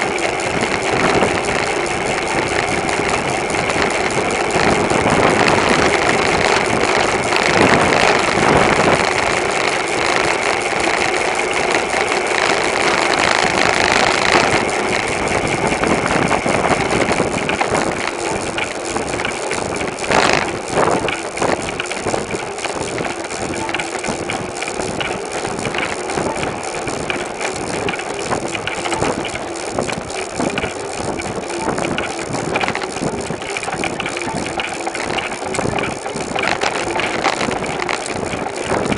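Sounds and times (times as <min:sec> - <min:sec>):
bicycle rattling: 0:00.0 - 0:38.9
bicycle riding hum: 0:00.0 - 0:38.9.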